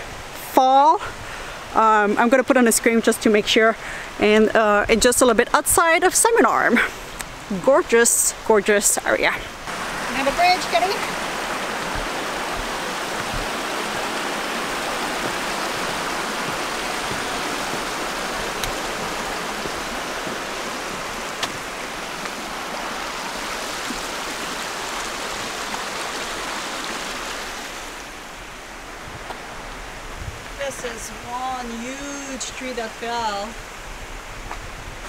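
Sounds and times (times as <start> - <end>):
rushing creek water: 0.0 - 35.0.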